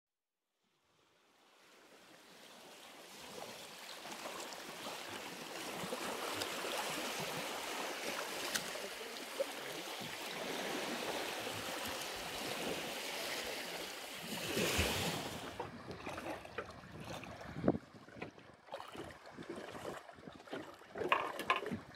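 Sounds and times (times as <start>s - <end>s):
sea waves lapping: 1.4s - 21.9s
small splashes: 3.1s - 21.9s.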